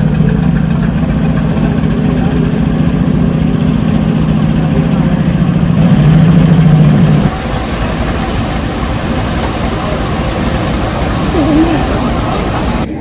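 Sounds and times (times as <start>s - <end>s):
engine idling: 0.0s - 13.0s
noisy rumble and hiss: 0.0s - 13.0s.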